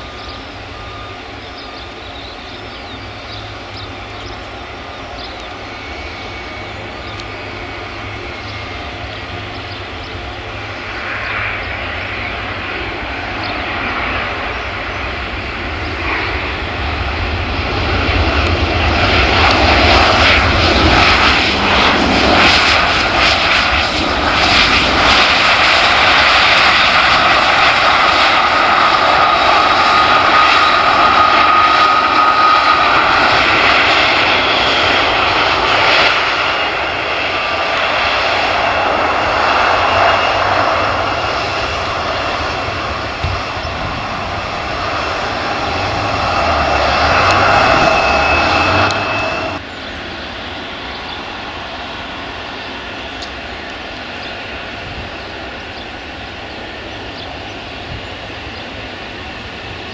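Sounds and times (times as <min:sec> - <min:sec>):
high engine whine: 0:00.0 - 0:59.9
jet engine roar: 0:00.0 - 0:59.9.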